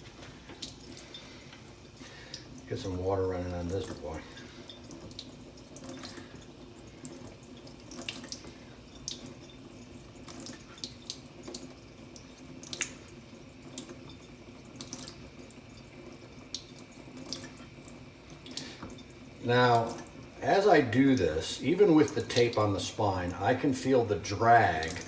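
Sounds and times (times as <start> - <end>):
light ticks and drips: 0.0 - 25.0
tap water running into sink: 0.0 - 25.0.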